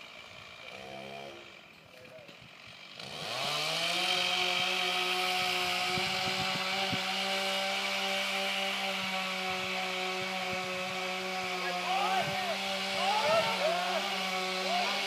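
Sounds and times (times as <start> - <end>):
chainsaw engine revving: 0.0 - 15.0.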